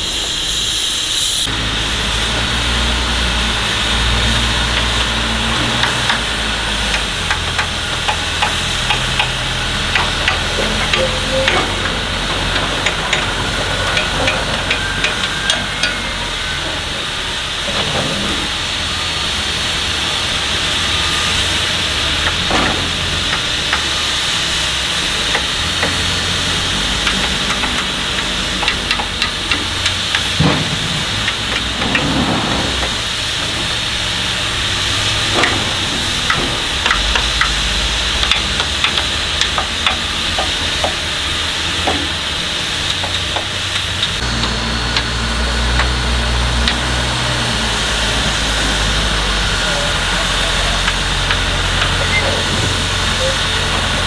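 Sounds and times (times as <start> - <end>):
loader engine idling: 0.0 - 54.0
steam hissing: 0.0 - 54.0.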